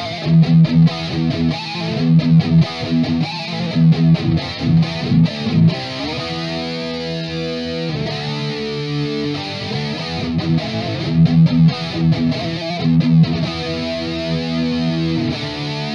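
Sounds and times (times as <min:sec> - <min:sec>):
distorted electric guitar riff: 0:00.0 - 0:15.9
electric guitar chords ringing: 0:00.0 - 0:15.9.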